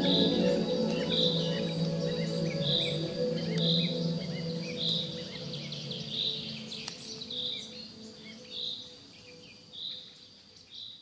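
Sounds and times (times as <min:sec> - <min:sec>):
low drone-like music: 0:00.0 - 0:10.3
high insect-like hum: 0:00.0 - 0:10.9
birds chirping: 0:00.0 - 0:11.0.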